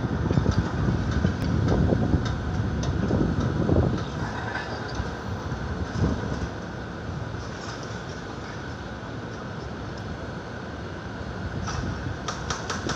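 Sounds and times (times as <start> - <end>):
traffic rumble: 0.0 - 12.9.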